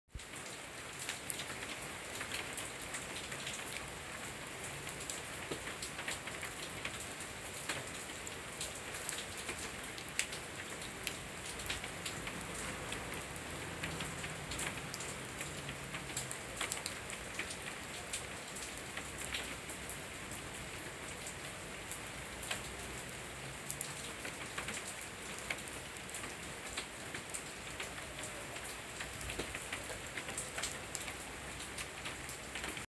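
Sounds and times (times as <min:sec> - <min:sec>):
steady rain falling: 0:00.1 - 0:32.9.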